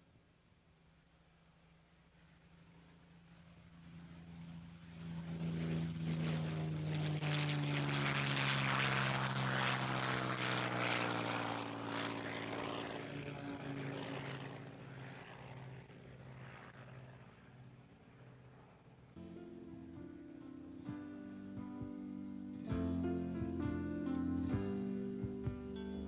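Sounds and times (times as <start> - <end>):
propeller plane engine passing by: 0.8 - 26.0.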